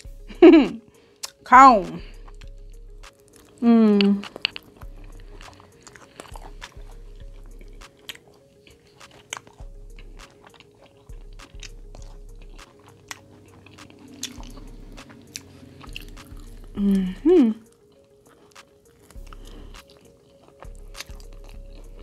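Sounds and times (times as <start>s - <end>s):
soft background beat: 0.0s - 22.0s
chewing and lip smacking: 0.8s - 22.0s.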